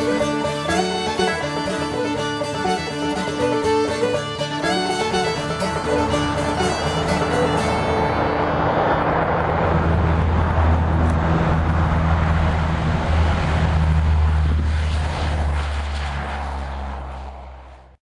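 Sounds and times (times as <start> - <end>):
turboprop plane taking off: 0.0 - 18.0.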